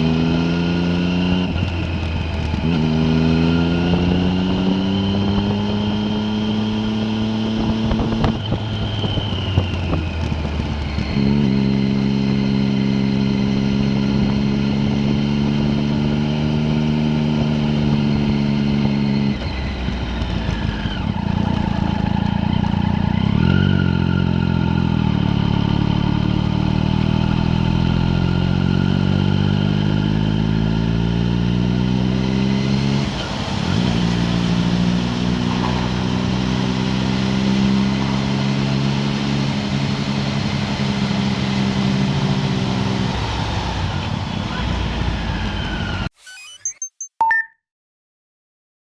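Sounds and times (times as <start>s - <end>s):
vehicle engine accelerating: 0.0s - 46.6s.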